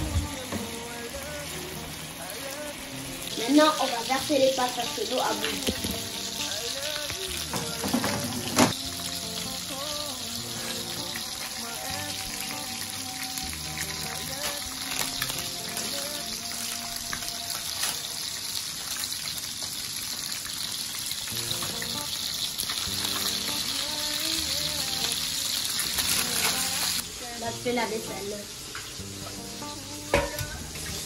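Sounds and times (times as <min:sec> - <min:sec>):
quiet background music: 0:00.0 - 0:18.6, 0:21.3 - 0:31.0
food sizzling in hot oil: 0:00.0 - 0:31.0.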